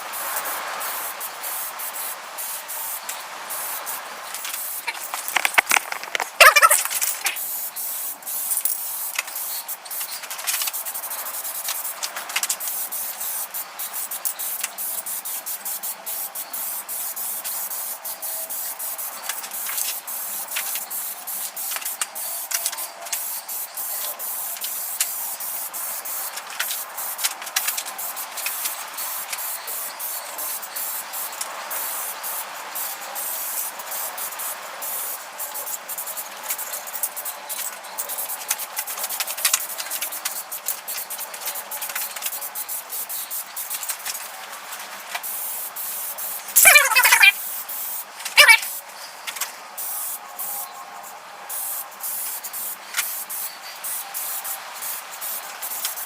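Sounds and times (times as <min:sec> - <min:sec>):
paint spraying hiss: 0:00.0 - 0:56.0.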